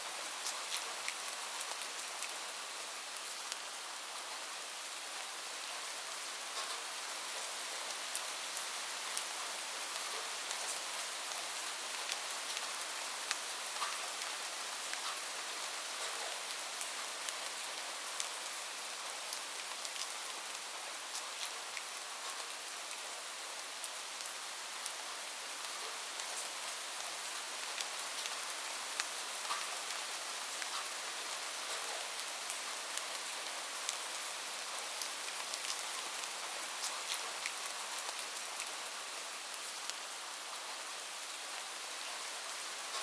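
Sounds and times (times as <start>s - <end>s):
light rain falling: 0.0s - 43.0s.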